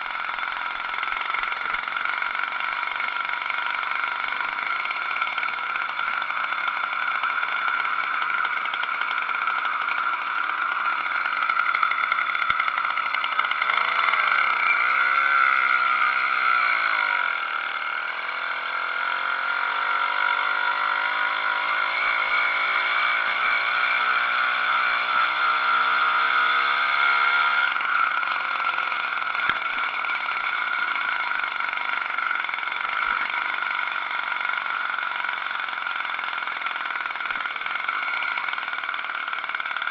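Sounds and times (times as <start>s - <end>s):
two-stroke engine raspy buzz: 0.0s - 39.9s.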